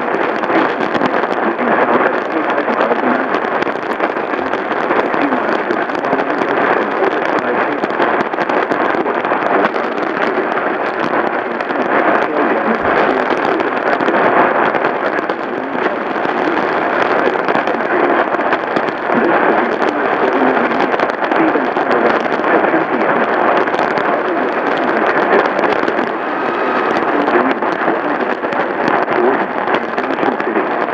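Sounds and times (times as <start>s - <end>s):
radio static hiss: 0.0s - 30.9s.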